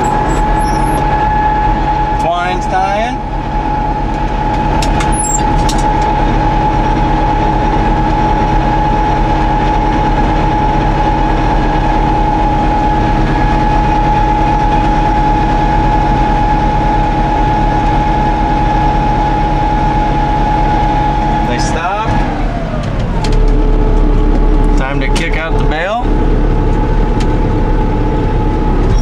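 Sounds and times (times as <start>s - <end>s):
steady whine: 0.0s - 29.0s
tractor engine and baler running: 0.0s - 29.0s.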